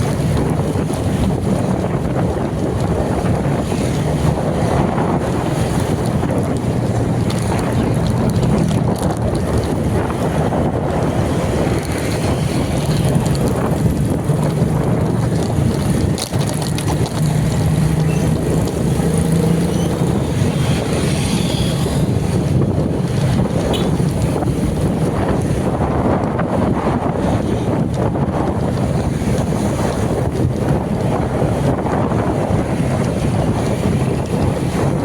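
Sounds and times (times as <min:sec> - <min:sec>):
heavy wind on microphone: 0:00.0 - 0:35.0
steady low rumble: 0:00.0 - 0:35.0.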